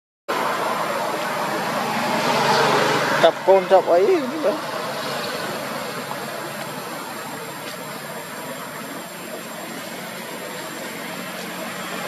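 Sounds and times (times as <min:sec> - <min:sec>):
outdoor background hiss: 0:00.3 - 0:12.0.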